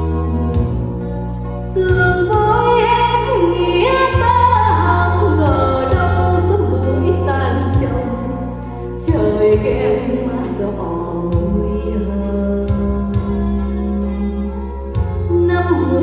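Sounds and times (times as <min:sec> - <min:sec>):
held low bass tones: 0:00.0 - 0:16.0.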